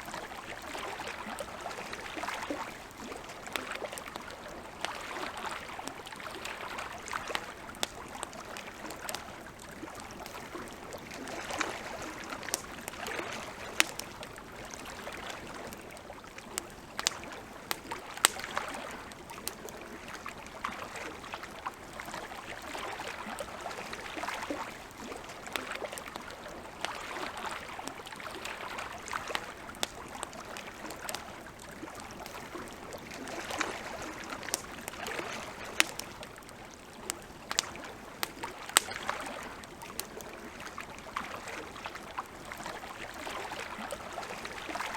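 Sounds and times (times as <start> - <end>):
campfire crackling and popping: 0.0 - 44.9
lake water lapping: 0.0 - 44.9.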